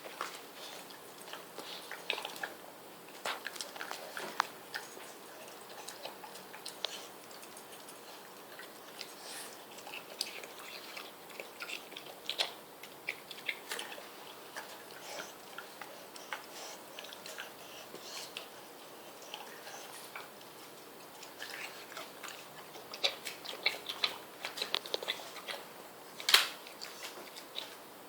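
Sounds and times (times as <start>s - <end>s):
dog chewing watermelon: 0.0s - 27.8s.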